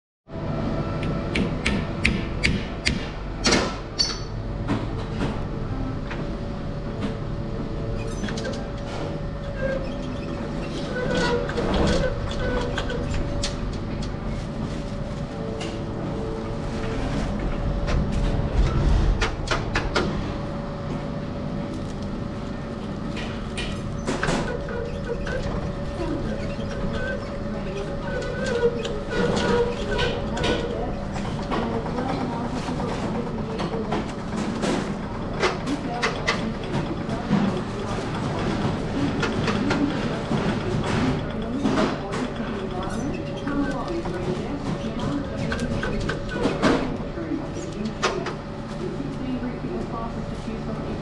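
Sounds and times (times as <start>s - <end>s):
machine humming: 0.3s - 47.5s.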